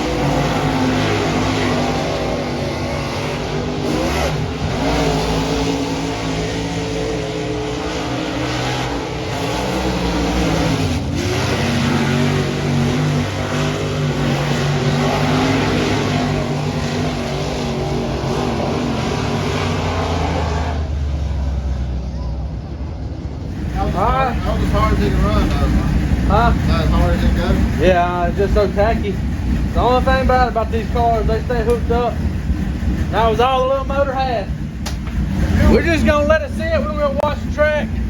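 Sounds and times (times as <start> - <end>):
race car engine at full throttle: 0.0 - 38.0.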